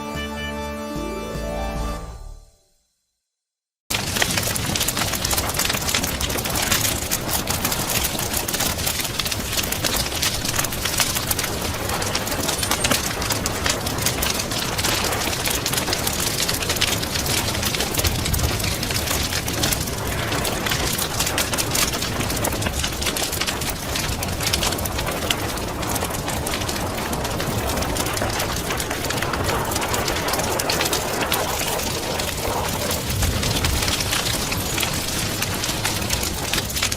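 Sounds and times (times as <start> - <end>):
steady rain: 3.9 - 36.9
wood fire crackling and popping: 3.9 - 36.9.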